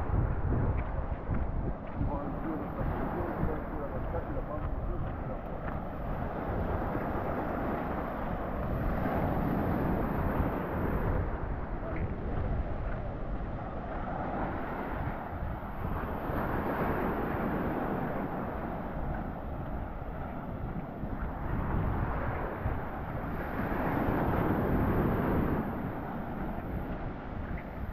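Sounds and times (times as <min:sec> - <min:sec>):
surf washing onto sandy beach: 0:00.0 - 0:27.9
wind buffeting microphone: 0:00.0 - 0:27.9.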